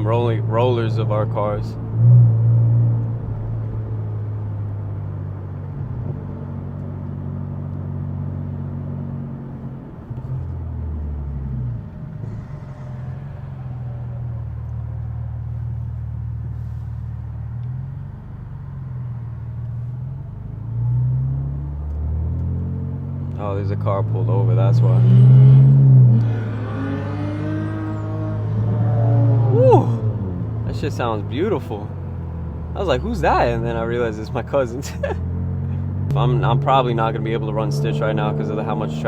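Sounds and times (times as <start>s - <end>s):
car engine cruising: 0.0s - 39.0s.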